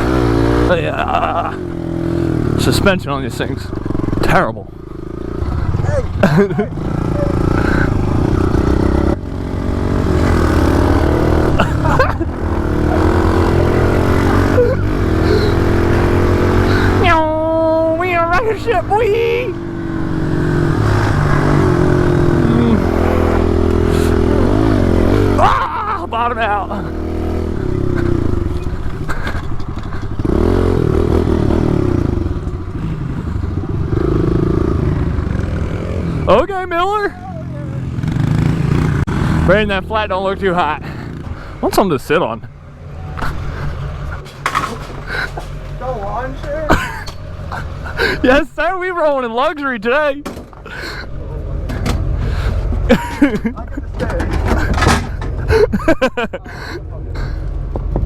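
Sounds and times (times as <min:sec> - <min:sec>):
pit bike engine accelerating: 0:00.0 - 0:49.6.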